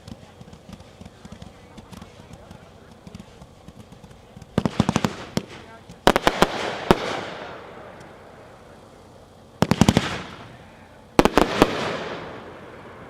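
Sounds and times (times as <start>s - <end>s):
firework bangs: 0.0s - 9.0s, 9.6s - 13.0s.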